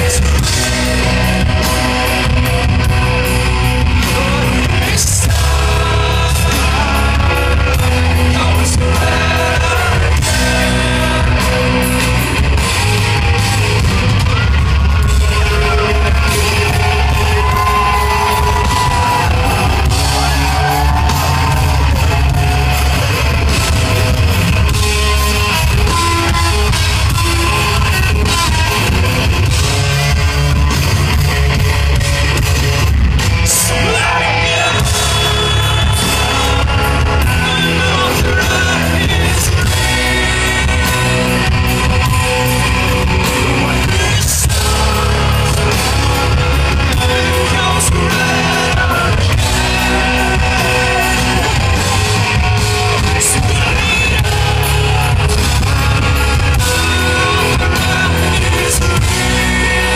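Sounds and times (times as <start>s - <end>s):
man singing lead vocal: 0.0s - 30.7s, 33.2s - 59.9s
hard rock band playing live: 0.0s - 59.9s.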